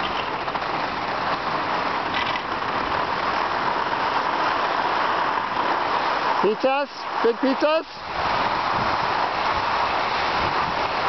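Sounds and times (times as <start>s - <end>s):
skis hissing over snow: 0.0s - 11.0s.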